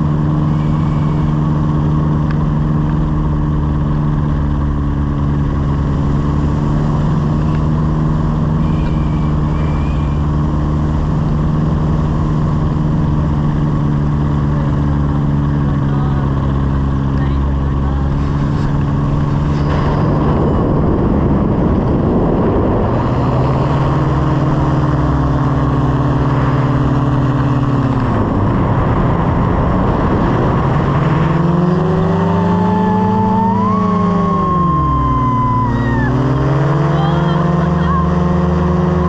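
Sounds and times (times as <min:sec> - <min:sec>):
high whine: 0:00.0 - 0:38.1
light aircraft engine running: 0:00.0 - 0:39.0.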